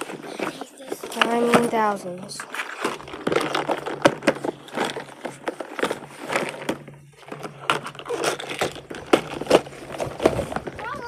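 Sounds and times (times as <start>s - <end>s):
plastic tackle clicking and clattering: 0.0s - 11.0s.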